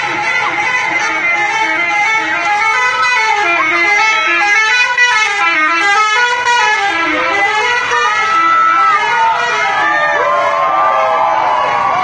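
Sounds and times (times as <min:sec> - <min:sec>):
multi-tone musical bus horn: 0:00.0 - 0:12.0.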